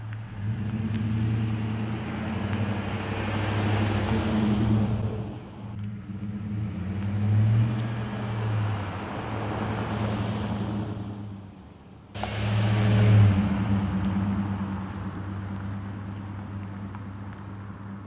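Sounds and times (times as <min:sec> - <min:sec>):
pickup truck driving by: 0:00.3 - 0:11.6, 0:12.2 - 0:18.0.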